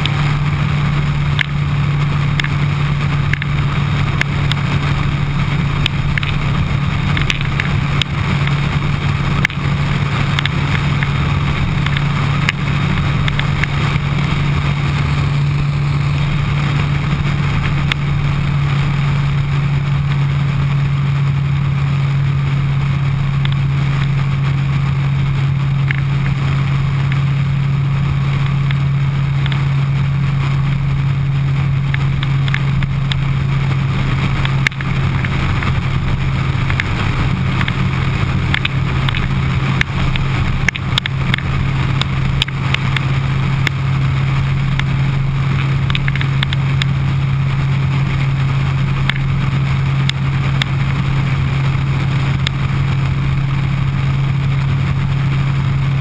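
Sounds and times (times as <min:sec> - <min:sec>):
motorcycle engine running steadily: 0:00.0 - 0:56.0
wind noise: 0:00.0 - 0:56.0.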